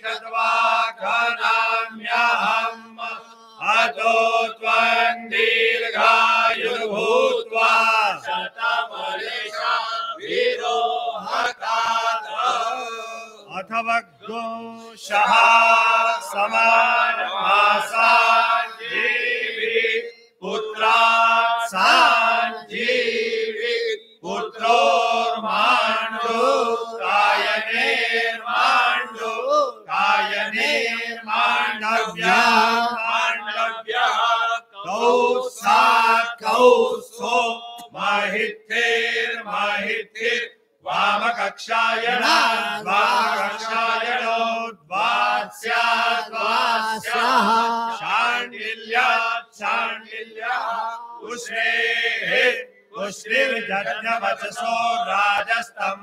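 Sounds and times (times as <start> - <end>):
men chanting together: 0.0 - 56.0.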